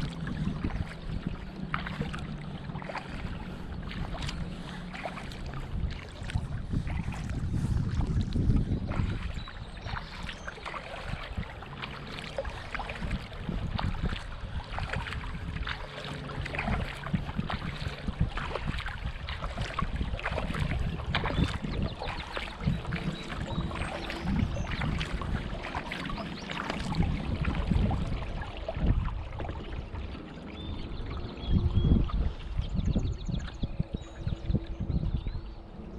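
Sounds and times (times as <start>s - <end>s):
water dripping off paddle: 0.0s - 30.3s
kayak paddle splashing water: 0.0s - 32.7s
wind on microphone: 0.0s - 35.9s.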